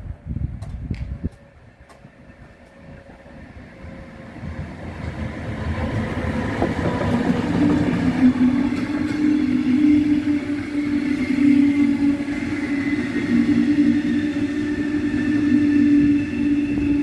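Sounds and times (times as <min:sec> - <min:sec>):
train approaching: 0:00.0 - 0:17.0.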